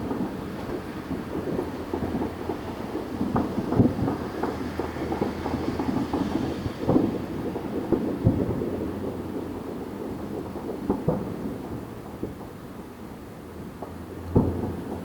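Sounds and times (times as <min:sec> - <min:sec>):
distant fireworks bangs and pops: 0:00.0 - 0:15.0.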